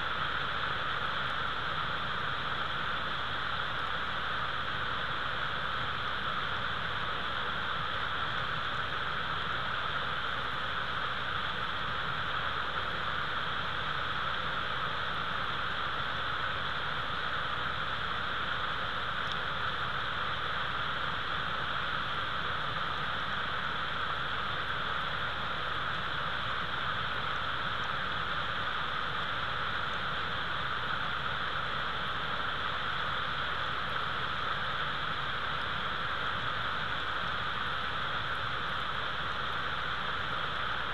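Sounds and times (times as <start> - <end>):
wind and falling snow hiss: 0.0 - 40.9.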